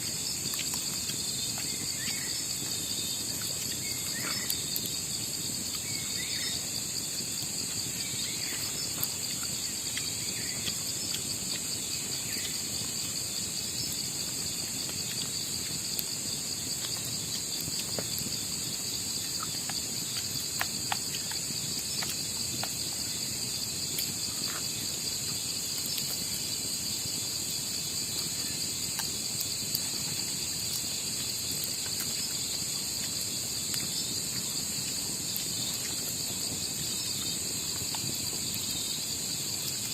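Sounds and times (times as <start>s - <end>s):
faint ticks and clicks: 0.0s - 6.4s, 7.0s - 26.5s, 27.2s - 39.9s
night insects shrilling: 0.0s - 39.9s.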